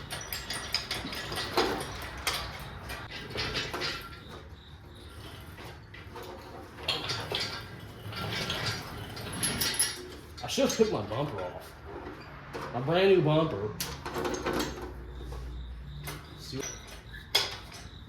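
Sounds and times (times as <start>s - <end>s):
metal hardware knocking and rattling: 0.0s - 12.9s, 13.8s - 18.0s.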